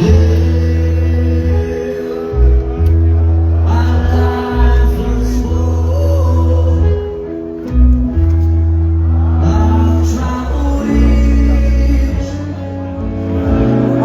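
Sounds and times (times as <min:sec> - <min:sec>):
man singing: 0:00.0 - 0:07.6, 0:09.3 - 0:14.0
electric guitar: 0:00.0 - 0:14.0
heavy bass notes: 0:00.0 - 0:14.0
punk rock band playing: 0:00.0 - 0:14.0.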